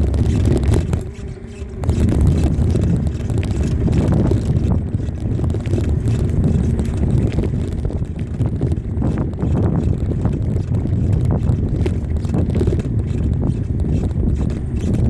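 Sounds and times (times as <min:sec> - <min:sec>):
light rattling ticks: 0:00.0 - 0:15.0
wind buffeting microphone: 0:00.0 - 0:15.0.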